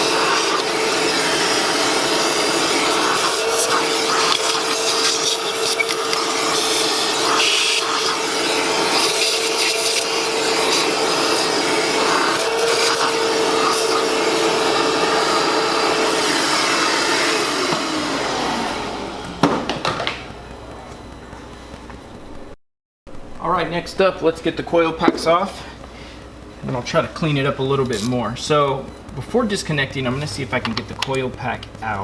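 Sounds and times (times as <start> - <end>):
vacuum cleaner whining: 0.0 - 32.0.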